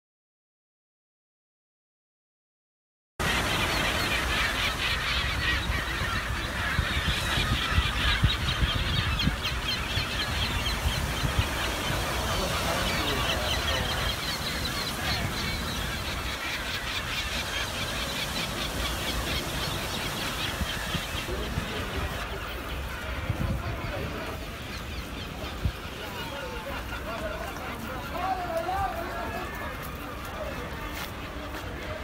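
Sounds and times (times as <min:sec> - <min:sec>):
gulls calling: 0:03.2 - 0:32.0.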